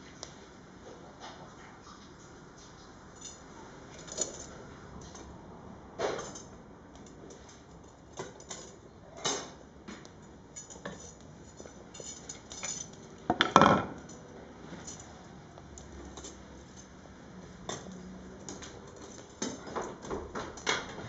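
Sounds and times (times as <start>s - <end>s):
firewood and fire tools clinking: 3.2s - 5.3s, 6.0s - 21.0s.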